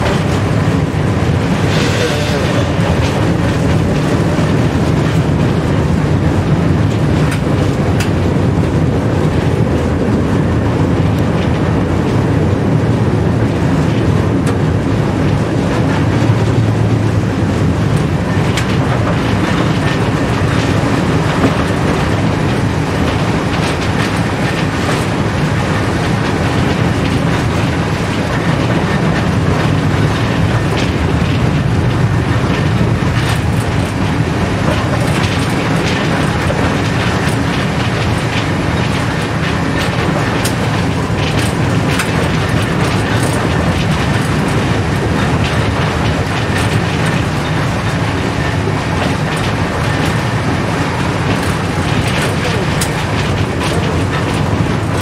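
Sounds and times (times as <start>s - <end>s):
tram wheels rumbling: 0.0s - 55.0s
wheels clicking over track: 0.0s - 55.0s.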